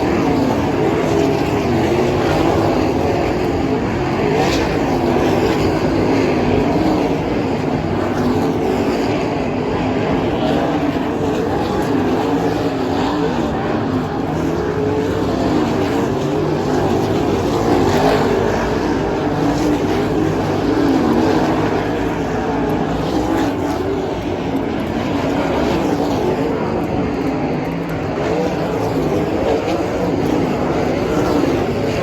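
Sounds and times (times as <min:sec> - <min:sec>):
race car engines revving: 0:00.0 - 0:32.0.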